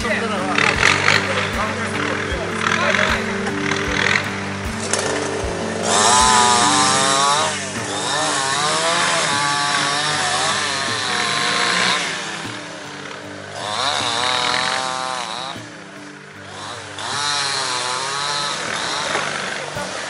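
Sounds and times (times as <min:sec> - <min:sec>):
background music: 0:00.0 - 0:20.0
chainsaw cutting wood: 0:00.0 - 0:20.0.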